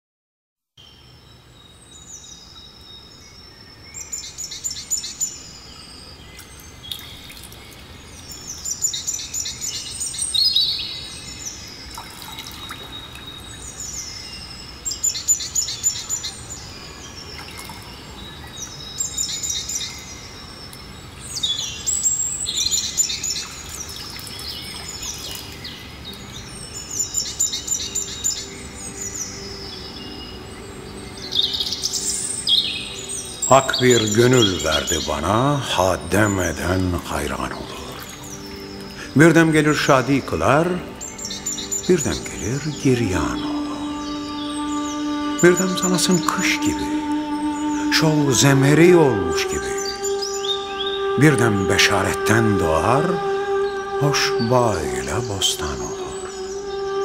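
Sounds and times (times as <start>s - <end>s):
low background hiss: 0.8s - 57.0s
songbird trilling and whistling: 1.9s - 57.0s.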